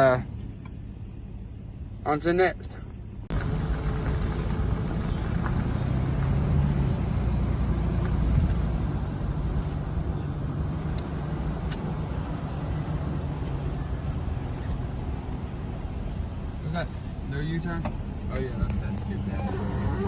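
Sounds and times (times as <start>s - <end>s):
road noise: 0.0s - 20.0s
truck engine hum: 0.0s - 20.0s.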